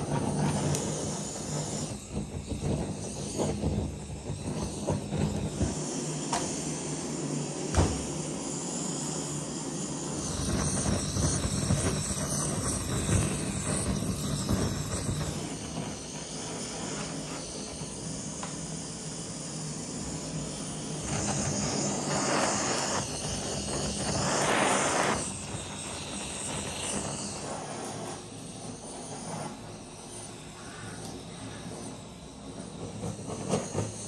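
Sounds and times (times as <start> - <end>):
blowtorch flame hissing: 0.0 - 34.0.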